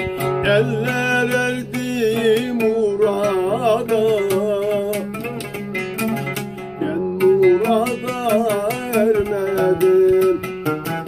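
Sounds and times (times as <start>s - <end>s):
man singing folk song: 0.0s - 11.0s
oud plucked notes: 0.0s - 11.0s.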